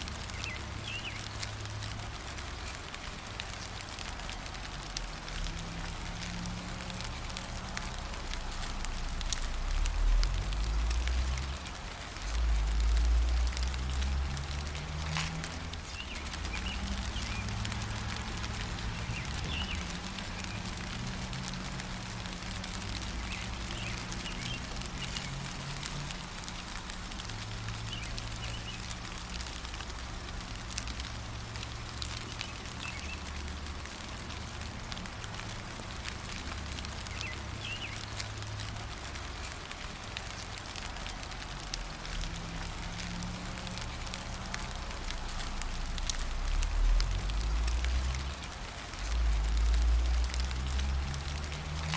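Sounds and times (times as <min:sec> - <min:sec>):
gentle rain falling: 0:00.0 - 0:51.9
water drips: 0:00.0 - 0:51.9.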